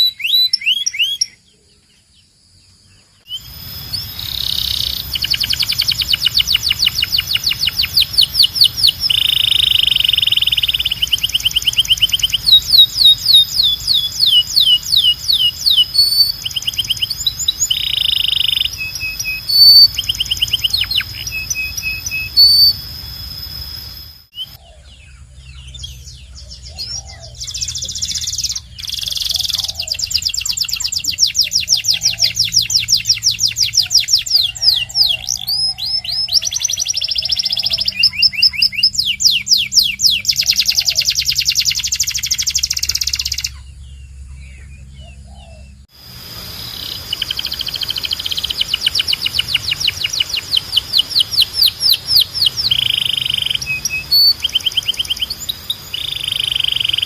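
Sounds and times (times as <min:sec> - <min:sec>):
canary singing trills: 0:00.0 - 0:02.2, 0:02.8 - 0:57.0.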